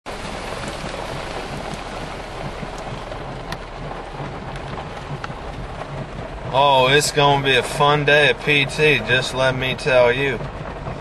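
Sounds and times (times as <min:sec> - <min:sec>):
sharp ticks of raindrops: 0:00.1 - 0:11.0
steady rain falling: 0:00.1 - 0:11.0.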